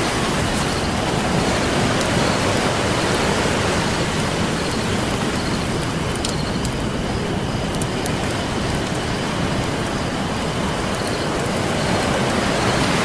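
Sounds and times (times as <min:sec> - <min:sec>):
campfire crackling and popping: 0:00.0 - 0:13.0
ocean surf: 0:00.0 - 0:13.0.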